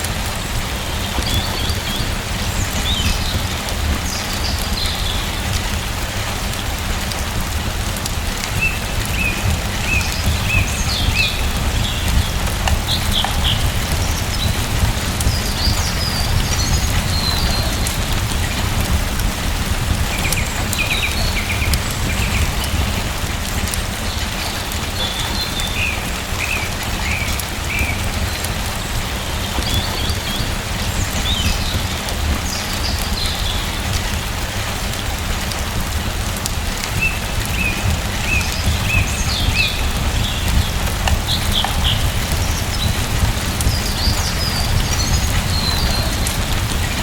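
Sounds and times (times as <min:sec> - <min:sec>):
small birds chirping: 0:00.0 - 0:35.5, 0:36.1 - 0:47.0
raindrops ticking: 0:00.0 - 0:47.0
steady rain falling: 0:00.0 - 0:47.0.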